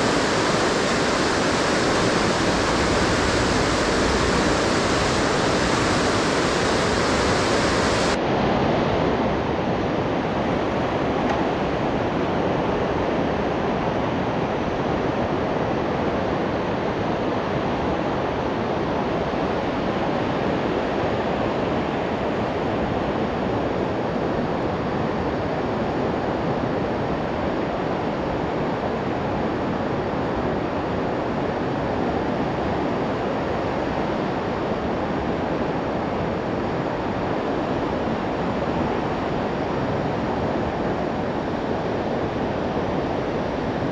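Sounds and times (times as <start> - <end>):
whitewater rushing through gorge: 0.0 - 43.9.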